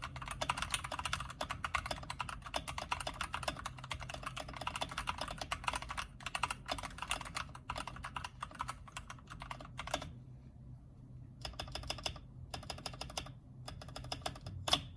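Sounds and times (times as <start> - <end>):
mechanical keyboard typing: 0.0 - 10.1, 11.4 - 14.9.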